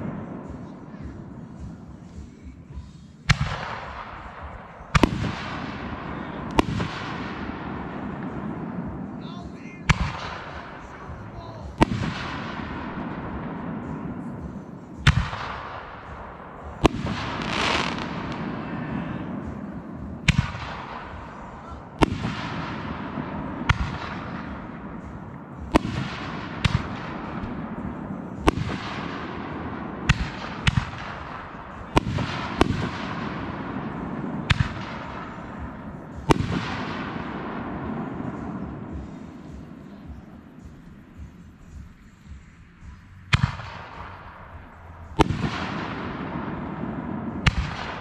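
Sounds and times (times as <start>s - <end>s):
fireworks bangs with echo: 0.0s - 48.0s
fireworks crackling: 0.0s - 48.0s.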